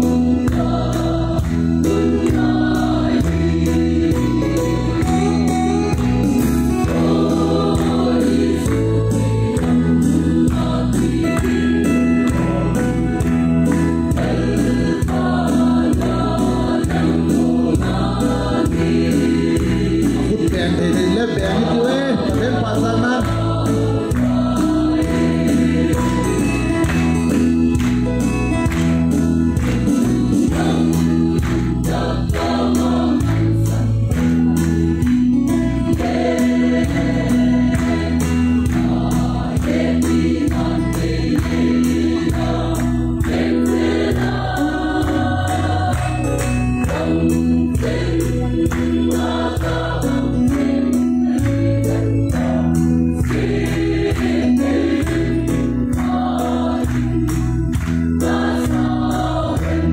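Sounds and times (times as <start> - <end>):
bass accompaniment: 0.0 - 59.9
choir singing gospel hymn: 0.0 - 59.9.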